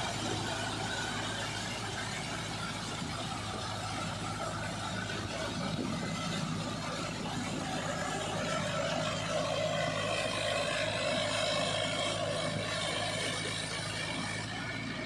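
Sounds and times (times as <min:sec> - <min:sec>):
rotavator churning mud and water: 0:00.0 - 0:15.0
tractor diesel engine running: 0:00.0 - 0:15.0.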